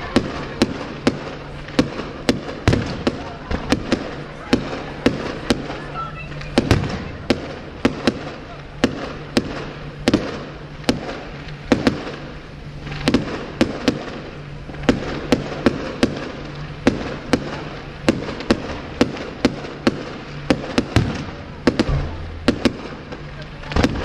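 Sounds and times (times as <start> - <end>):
continuous hiss: 0.0 - 24.0
firework shells bursting: 0.0 - 24.0.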